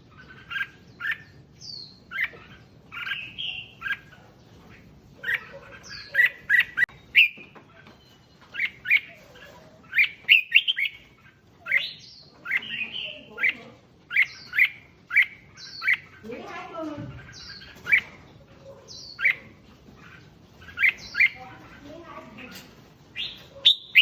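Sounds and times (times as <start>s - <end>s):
bulbuls chirping: 0.0s - 24.0s.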